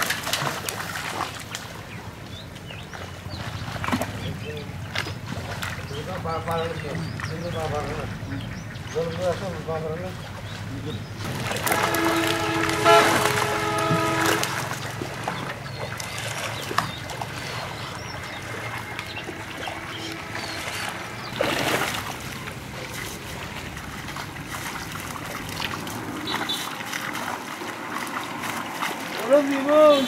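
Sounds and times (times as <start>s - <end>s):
water splashing from wading: 0.0s - 30.0s.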